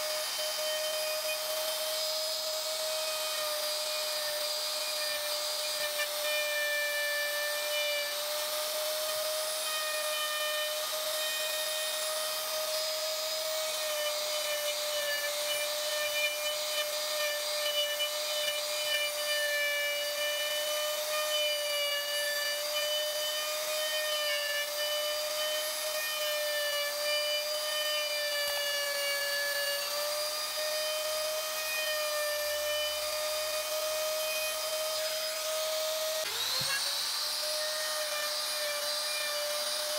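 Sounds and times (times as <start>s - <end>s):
electric router whining: 0.0s - 39.9s.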